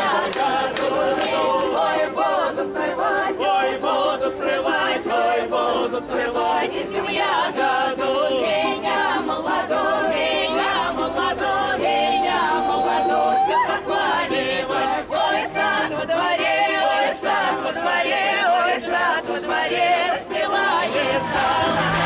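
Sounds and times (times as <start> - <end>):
crowd noise: 0.0 - 22.0
voices singing a cappella: 0.0 - 22.0.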